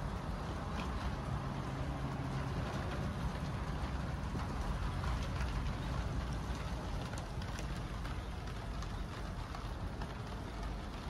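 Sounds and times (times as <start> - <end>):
rain falling: 0.0 - 11.0
raindrop ticks: 0.0 - 11.0.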